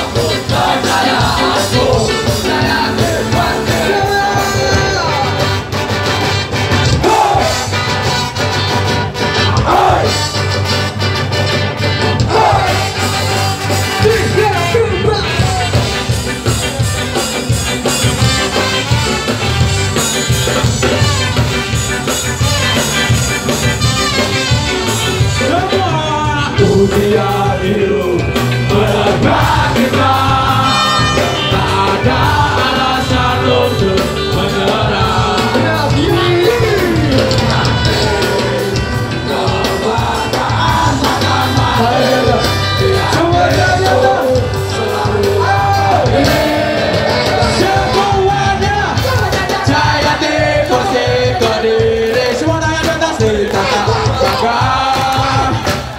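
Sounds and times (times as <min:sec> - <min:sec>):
ska band playing live: 0:00.0 - 0:55.9.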